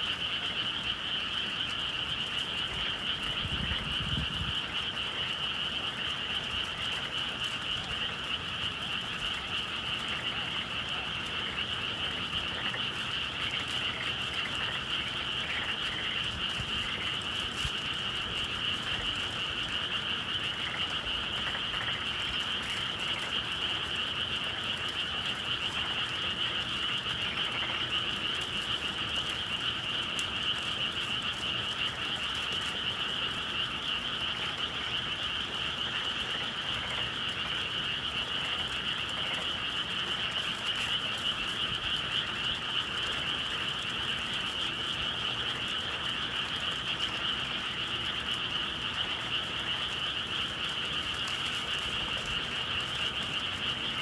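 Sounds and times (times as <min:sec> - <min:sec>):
chorus of frogs calling: 0:00.0 - 0:54.0.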